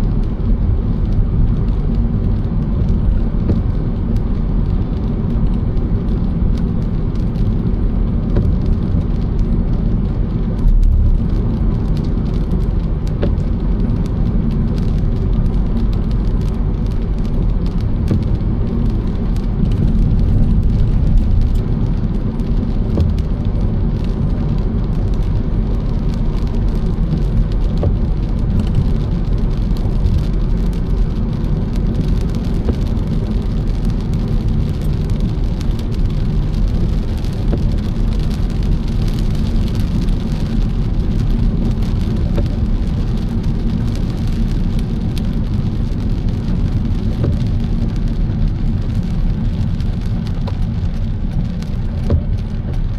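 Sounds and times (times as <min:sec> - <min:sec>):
car engine and tyres on wet road: 0:00.0 - 0:52.9
raindrops ticking on car: 0:00.0 - 0:52.9.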